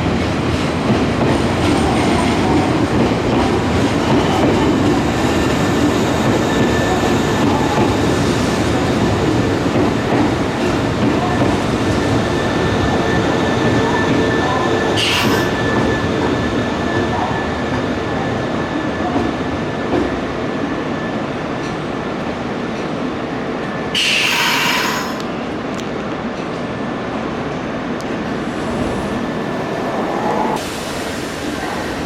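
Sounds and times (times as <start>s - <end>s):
electric train rumble and whine: 0.0s - 32.0s.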